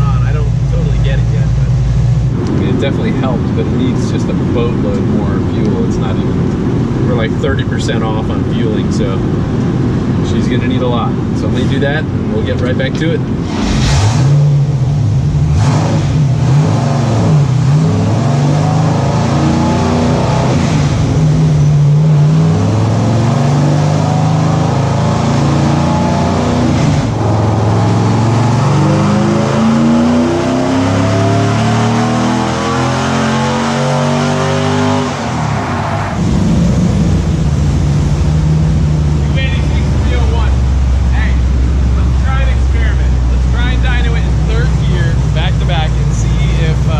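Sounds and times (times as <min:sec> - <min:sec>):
vee eight engine revving: 0:00.0 - 0:46.9.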